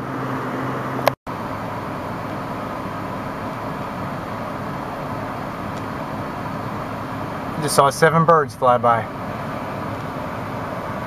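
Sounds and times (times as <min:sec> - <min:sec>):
outdoor rumble and hiss: 0:00.0 - 0:11.0.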